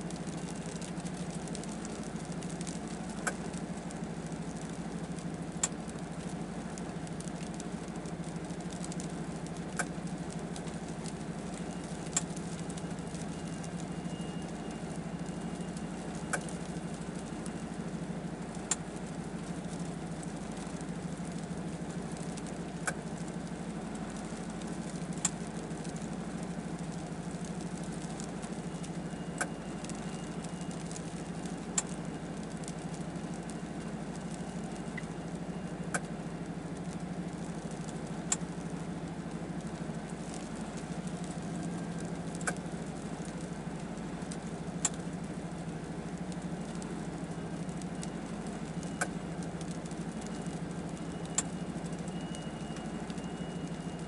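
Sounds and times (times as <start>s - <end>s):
ice pellets ticking on windshield: 0.0s - 54.0s.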